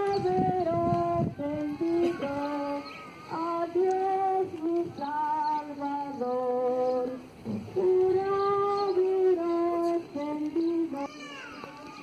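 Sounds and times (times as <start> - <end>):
group singing a hymn in unison: 0.0 - 10.9.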